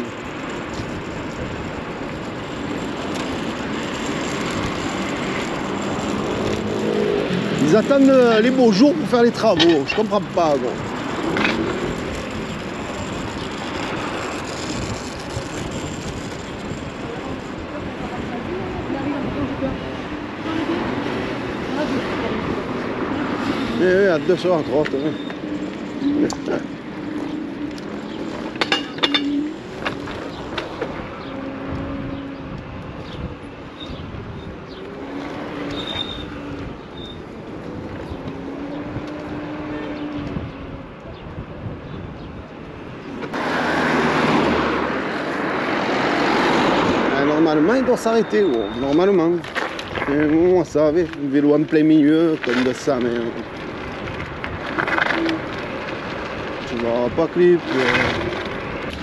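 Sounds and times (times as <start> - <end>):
wind buffeting microphone: 0.0 - 48.0
road noise: 0.0 - 59.0.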